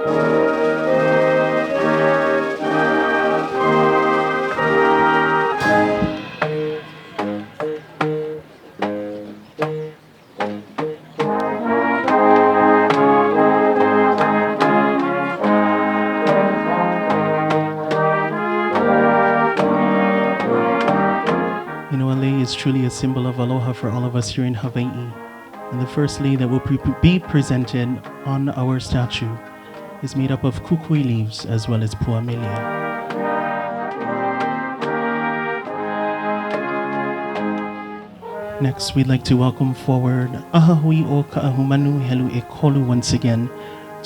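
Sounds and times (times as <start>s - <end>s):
brass ensemble playing chords: 0.0s - 44.0s.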